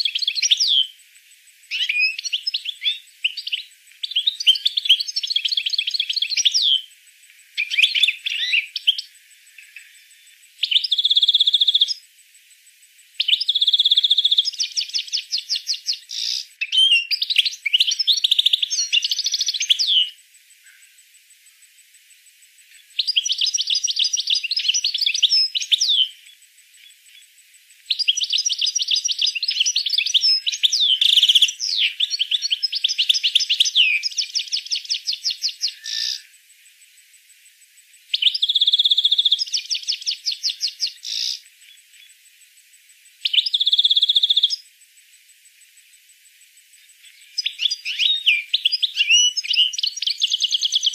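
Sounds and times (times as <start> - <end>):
songbird trilling: 0.0 - 1.0, 1.6 - 12.1, 13.2 - 21.6, 22.7 - 36.4, 38.0 - 42.2, 43.2 - 44.7, 46.7 - 50.9.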